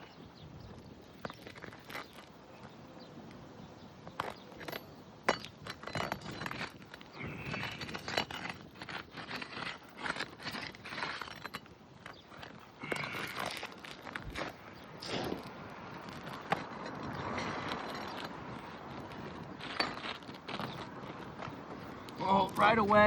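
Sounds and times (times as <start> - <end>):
footsteps on shingle roof: 0.7 - 3.4, 4.0 - 23.0
sharp clicks and scrapes: 1.0 - 2.3, 4.0 - 22.7.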